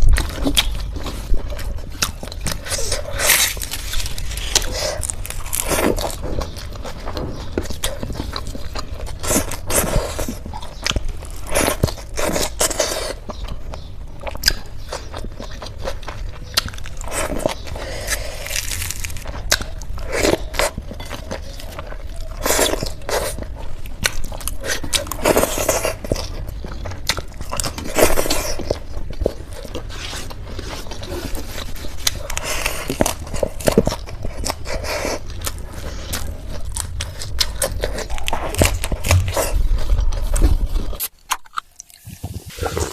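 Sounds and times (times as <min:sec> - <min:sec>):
crunchy bites and chewing: 0:00.0 - 0:42.9.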